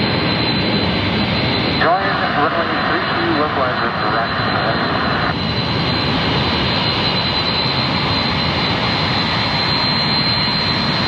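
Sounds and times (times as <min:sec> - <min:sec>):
high engine whine: 0:00.0 - 0:11.0
jet engines running: 0:00.0 - 0:11.0.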